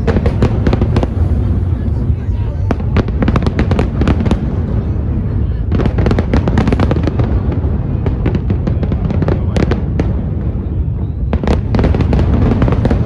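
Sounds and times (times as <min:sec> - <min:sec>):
low booming: 0:00.0 - 0:13.0.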